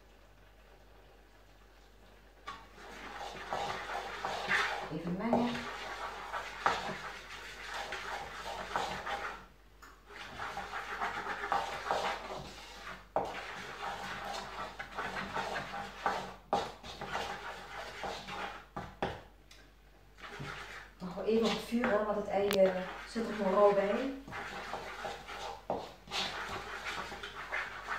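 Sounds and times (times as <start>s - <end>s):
spatula scraping in a wok: 2.5s - 9.5s, 10.1s - 18.8s, 20.2s - 27.9s.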